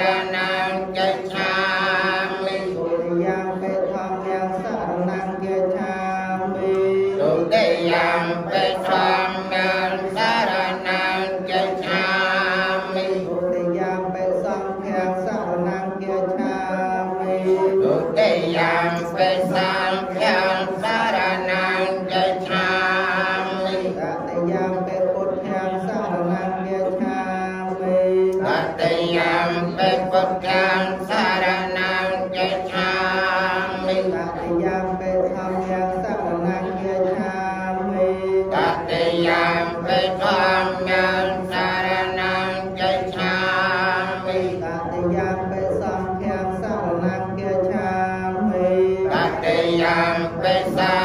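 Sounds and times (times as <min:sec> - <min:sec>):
monks chanting in unison: 0:00.0 - 0:51.0.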